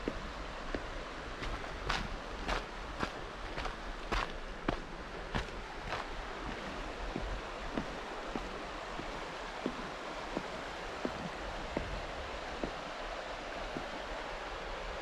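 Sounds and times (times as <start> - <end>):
footsteps on trail: 0.0 - 12.9
river rapids rushing: 0.0 - 15.0.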